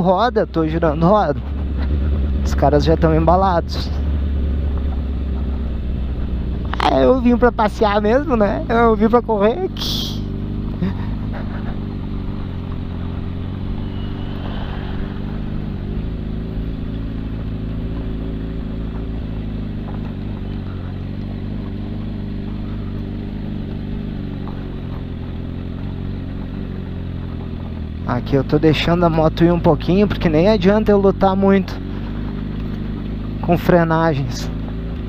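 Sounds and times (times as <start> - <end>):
motorcycle engine running low: 0.0 - 35.0.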